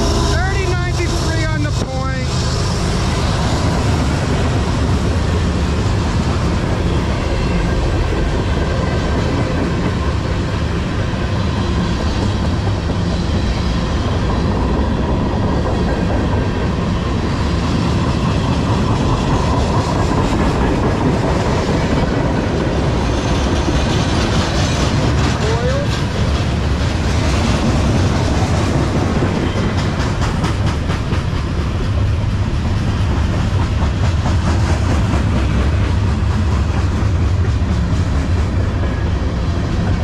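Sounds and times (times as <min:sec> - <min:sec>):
train wheels rumbling on rails: 0:00.0 - 0:40.0
wheels clickety-clack: 0:03.6 - 0:40.0.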